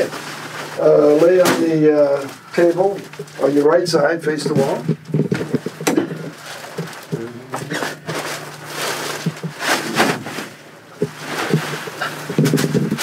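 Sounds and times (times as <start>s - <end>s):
rustling of table covering: 0.0s - 1.4s, 2.0s - 13.0s.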